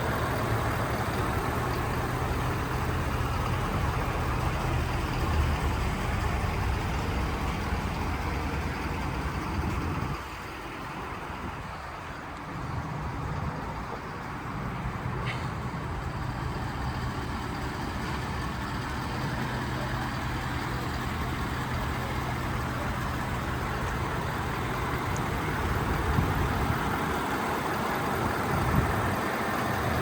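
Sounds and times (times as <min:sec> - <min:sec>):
pickup truck engine idling: 0:00.0 - 0:30.0.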